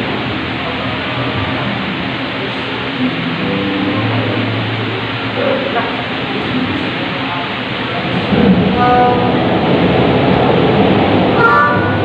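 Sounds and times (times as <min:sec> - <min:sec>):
steady noisy hiss: 0:00.0 - 0:12.0.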